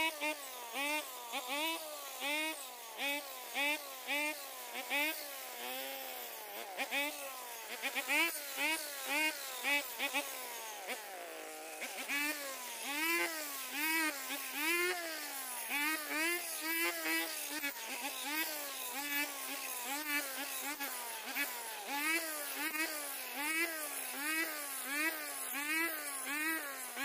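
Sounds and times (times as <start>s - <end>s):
brush cutter engine cutting grass: 0.0s - 27.0s.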